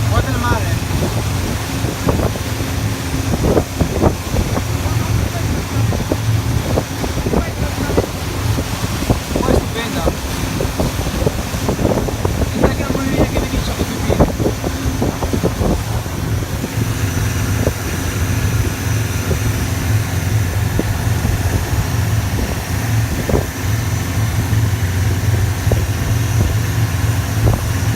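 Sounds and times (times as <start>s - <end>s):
boat engine humming: 0.0s - 27.9s
wind buffeting microphone: 0.0s - 27.9s.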